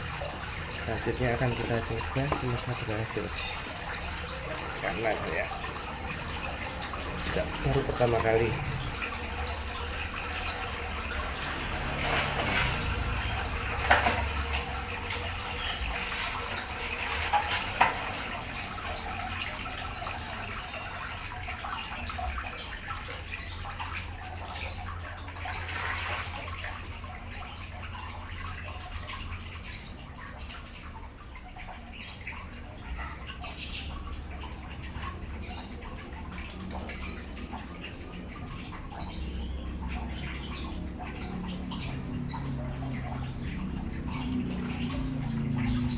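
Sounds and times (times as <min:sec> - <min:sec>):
pump humming: 0:00.0 - 0:45.9
water running and splashing: 0:00.0 - 0:45.9.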